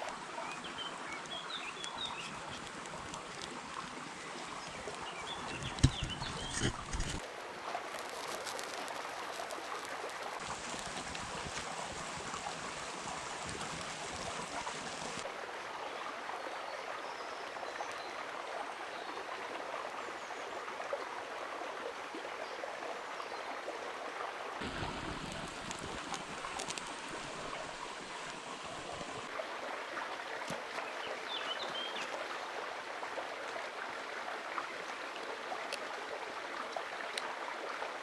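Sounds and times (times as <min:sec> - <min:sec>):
river water running: 0:00.0 - 0:38.0.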